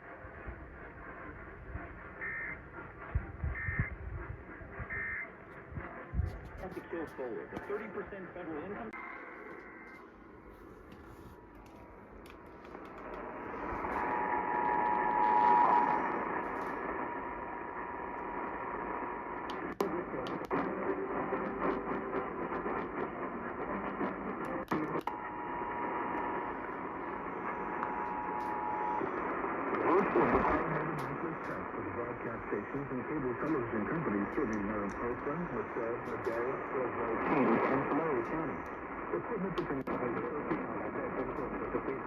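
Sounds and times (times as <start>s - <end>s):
radio static hiss: 0.0s - 42.0s.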